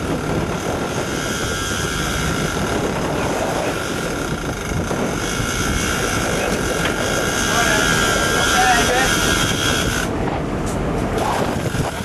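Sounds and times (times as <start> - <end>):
boat engines droning: 0.0 - 12.0
water noise: 0.0 - 12.0
wind: 0.0 - 12.0.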